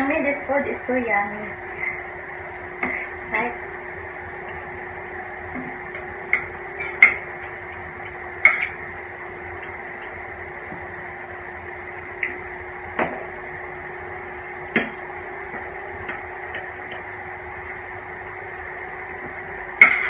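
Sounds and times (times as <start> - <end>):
steady room hum: 0.0 - 20.0.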